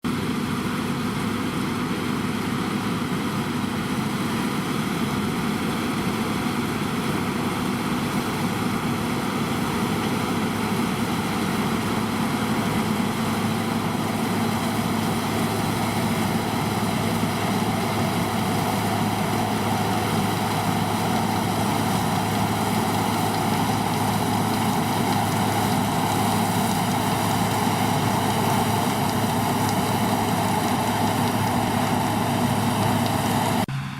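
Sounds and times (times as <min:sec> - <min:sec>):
combine harvester engine droning: 0:00.0 - 0:33.9.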